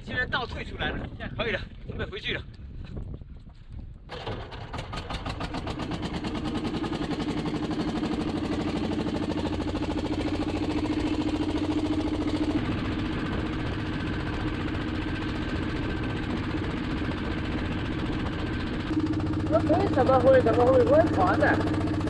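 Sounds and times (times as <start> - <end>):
boat engine running: 4.1 - 22.0.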